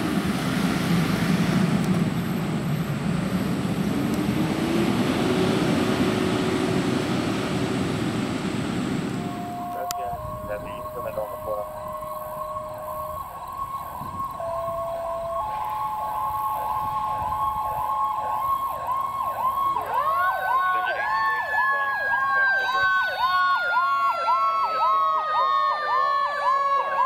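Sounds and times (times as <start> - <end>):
fire truck siren yelping: 0.0 - 27.0
rising and falling siren tone: 0.0 - 27.0.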